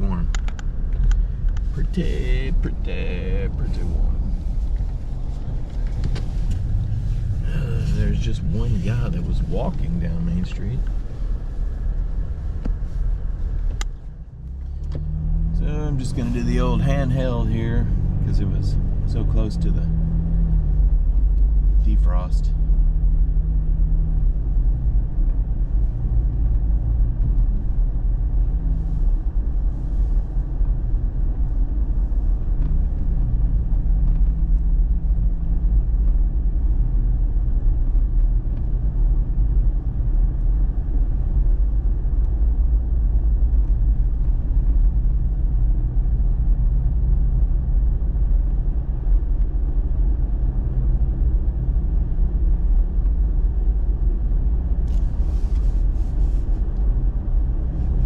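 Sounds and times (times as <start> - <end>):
truck engine and tyres rumbling: 0.0 - 58.0.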